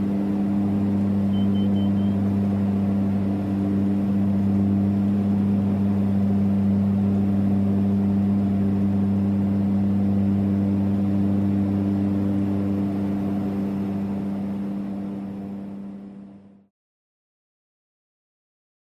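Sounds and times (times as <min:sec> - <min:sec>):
turboprop cabin drone: 0:00.0 - 0:16.7.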